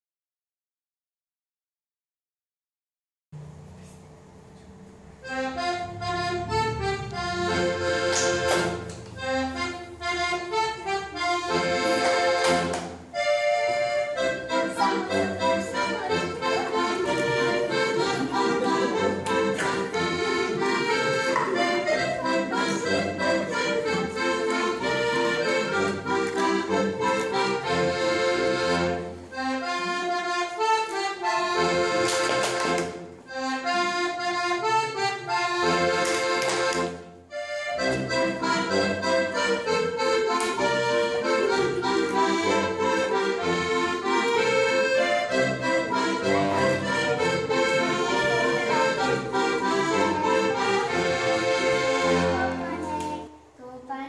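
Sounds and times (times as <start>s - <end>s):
accordion playing folk dance tune: 5.1s - 53.1s.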